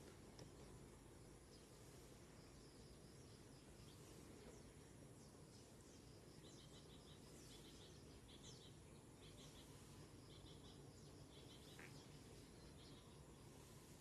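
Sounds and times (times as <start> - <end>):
faint high-pitched chirps: 1.5 - 14.0.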